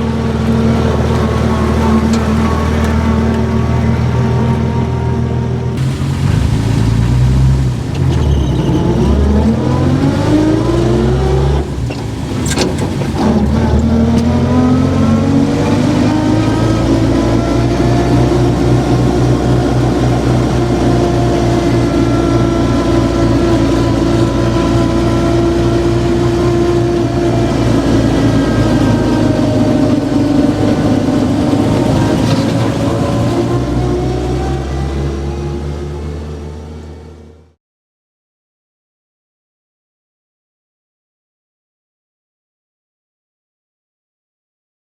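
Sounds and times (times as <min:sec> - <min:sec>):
car engine accelerating: 0:00.0 - 0:37.6.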